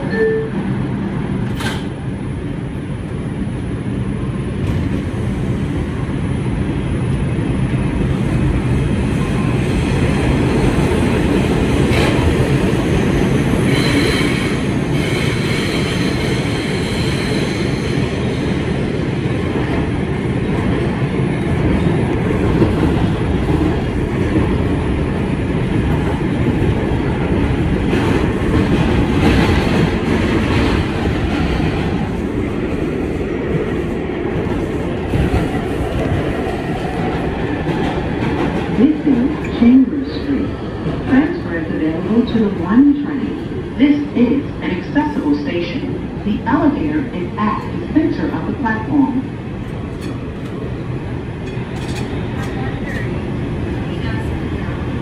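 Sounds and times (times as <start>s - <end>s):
rumble of wheels on rail: 0.0s - 55.0s.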